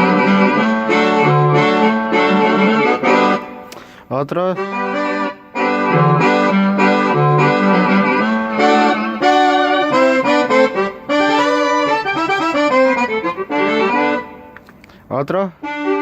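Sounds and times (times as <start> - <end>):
synthesizer accordion and brass music: 0.0 - 14.6, 15.5 - 16.0.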